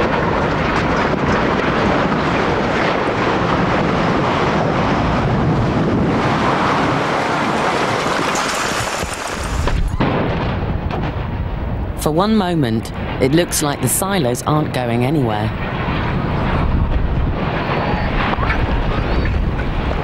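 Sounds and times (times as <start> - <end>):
rubble falling with rumbling roar: 0.0 - 12.0, 15.6 - 20.0.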